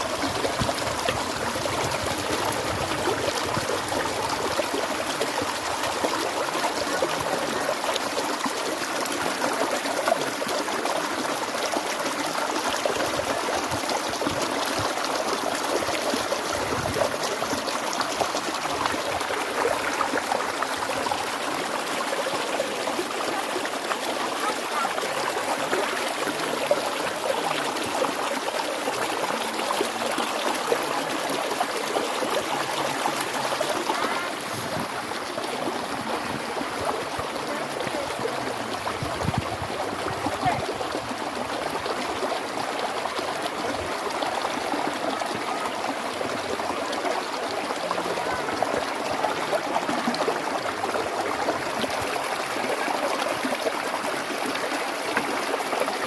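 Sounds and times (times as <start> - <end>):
stream of running water: 0.0 - 56.0.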